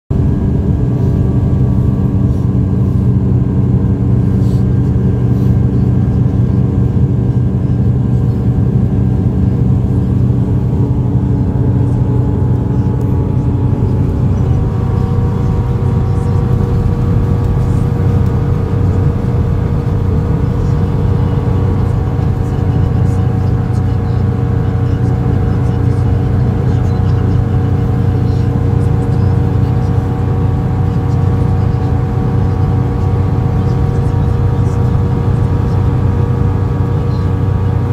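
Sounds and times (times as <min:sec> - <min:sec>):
vehicle engine drone: 0:00.1 - 0:37.9.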